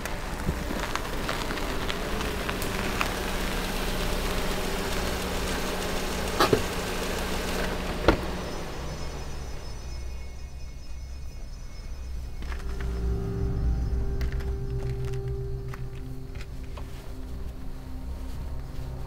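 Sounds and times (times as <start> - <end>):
tyres crackling over gravel: 0.0 - 10.2, 12.2 - 19.0
car engine running: 0.0 - 19.0.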